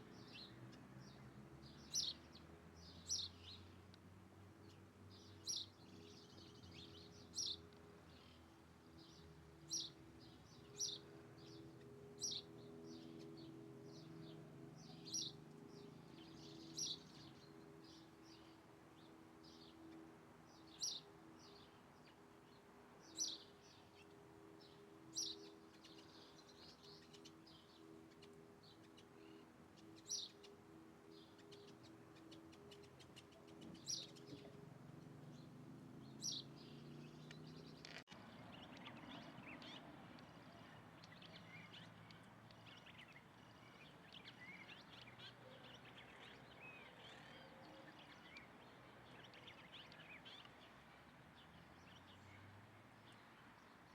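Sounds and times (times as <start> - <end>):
many small birds chirping: 0.0 - 53.9.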